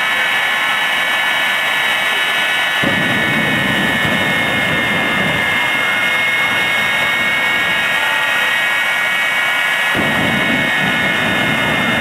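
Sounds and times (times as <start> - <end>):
afterburner deep rumble: 0.0 - 12.0
turbojet engine whine: 0.0 - 12.0.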